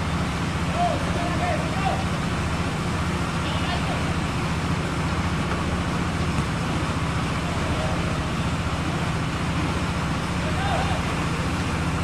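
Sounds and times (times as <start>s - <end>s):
low engine hum: 0.0s - 12.0s
outdoor noise: 0.0s - 12.0s.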